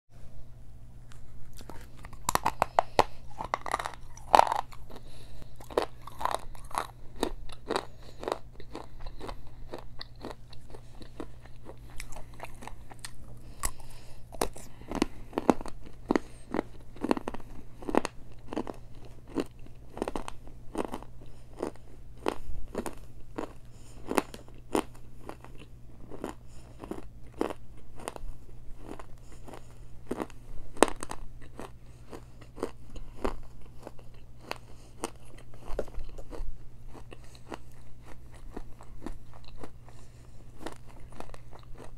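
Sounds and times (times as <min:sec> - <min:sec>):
low steady hum: 0:00.1 - 0:41.9
crunchy chewing: 0:01.1 - 0:41.9.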